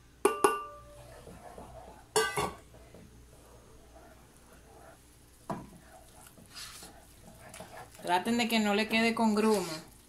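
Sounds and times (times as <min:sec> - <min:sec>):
spoon scraping dough: 0:00.8 - 0:10.0.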